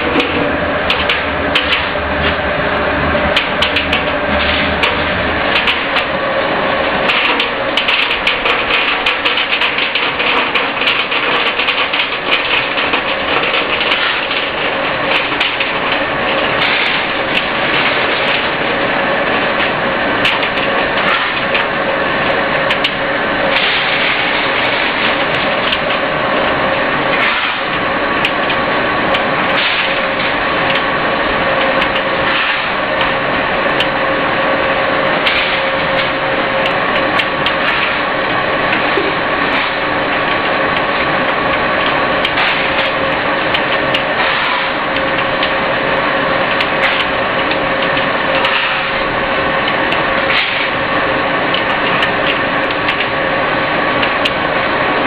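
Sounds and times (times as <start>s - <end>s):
pellet mill running: 0.0s - 55.0s
pellets clicking from chute: 0.0s - 55.0s.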